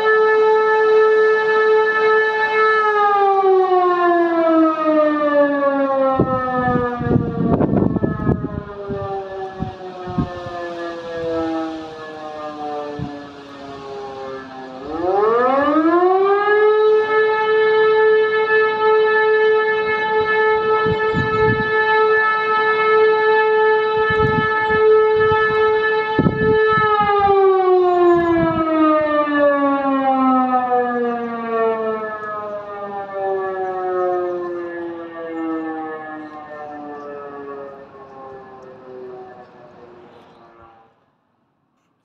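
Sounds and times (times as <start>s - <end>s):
electro-mechanical siren wailing: 0.0s - 41.2s.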